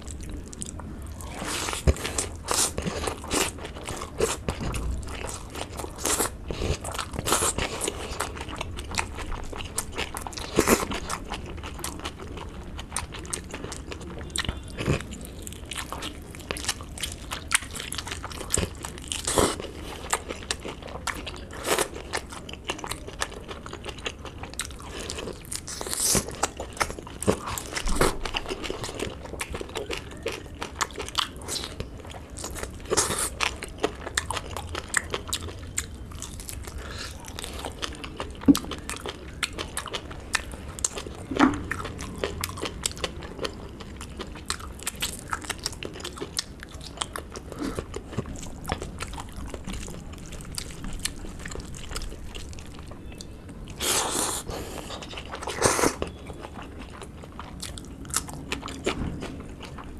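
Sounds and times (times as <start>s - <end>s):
chewing food: 0.0s - 59.9s.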